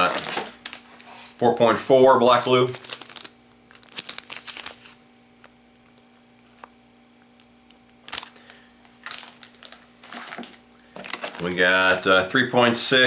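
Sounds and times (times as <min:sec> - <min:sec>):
plastic package crinkling: 0:00.0 - 0:01.1, 0:01.7 - 0:06.8, 0:07.4 - 0:12.5.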